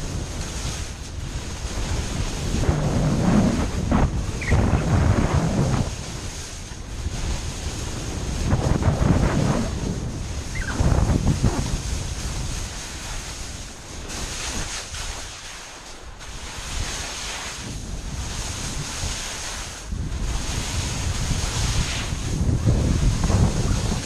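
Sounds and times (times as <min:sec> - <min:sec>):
wind buffeting microphone: 0:00.0 - 0:15.4, 0:16.0 - 0:24.0
skis scraping over snow: 0:00.0 - 0:24.0.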